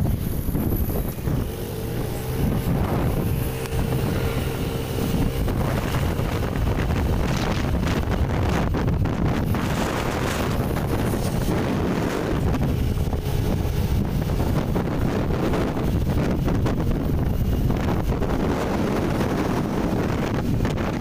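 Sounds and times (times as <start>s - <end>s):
vehicle driving rumble: 0.0s - 21.0s
wind buffeting microphone: 0.0s - 21.0s.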